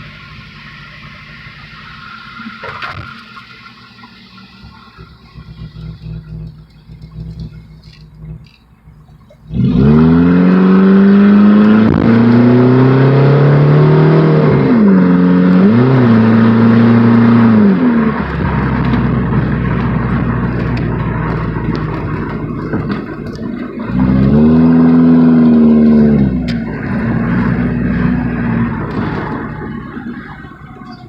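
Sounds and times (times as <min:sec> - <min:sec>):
car engine accelerating: 0:00.0 - 0:31.0
car engine idling: 0:00.0 - 0:31.0.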